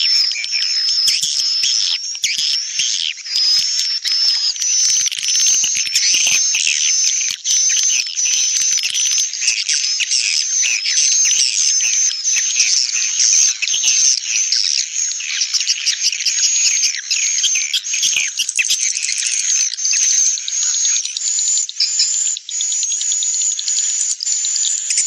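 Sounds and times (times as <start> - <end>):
swiftlets chirping and twittering: 0.0 - 25.0.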